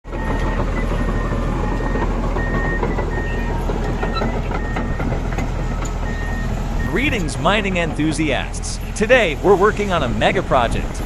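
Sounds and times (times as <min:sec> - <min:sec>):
heavy machinery engine rumble: 0:00.0 - 0:11.0
backup alarm beeping: 0:00.1 - 0:10.8.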